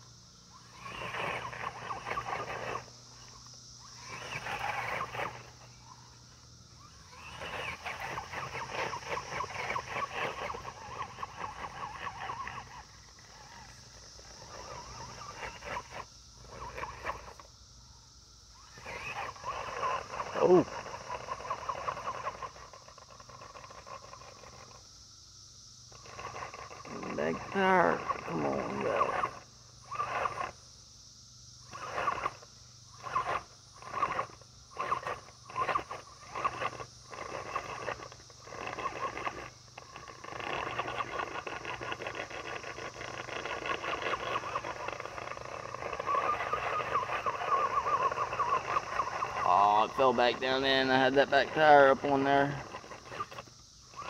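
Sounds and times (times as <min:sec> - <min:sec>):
rc car electric motor whining: 0:00.0 - 0:54.0.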